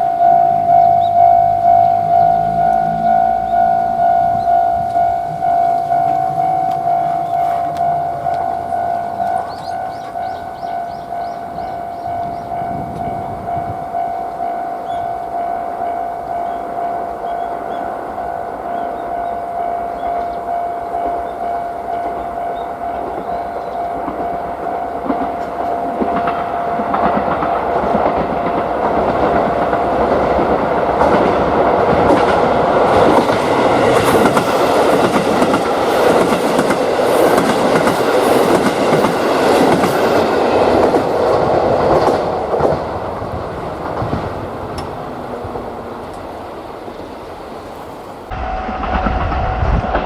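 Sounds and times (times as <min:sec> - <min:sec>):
crossing warning bell: 0:00.0 - 0:46.3, 0:48.3 - 0:50.0
wheels clacking over rail joints: 0:00.0 - 0:47.3
diesel train passing: 0:00.0 - 0:50.0.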